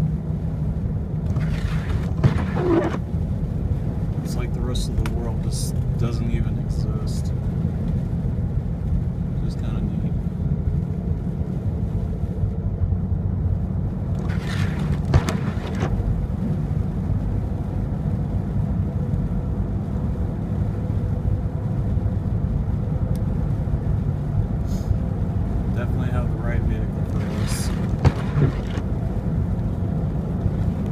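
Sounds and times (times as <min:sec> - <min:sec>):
car driving rumble inside cabin: 0:00.0 - 0:30.9.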